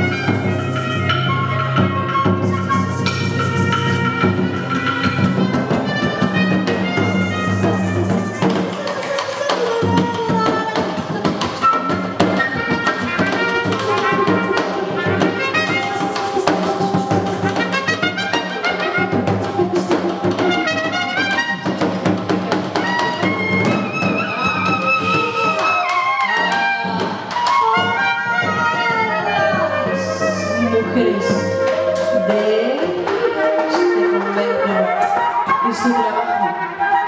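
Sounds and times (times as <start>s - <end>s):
wind instrument playing jazz: 0.0s - 37.0s
wooden mallet percussion: 0.0s - 37.0s.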